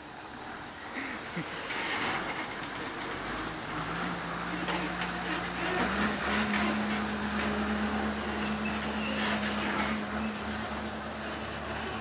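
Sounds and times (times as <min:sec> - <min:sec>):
truck diesel engine humming: 0:00.0 - 0:12.0.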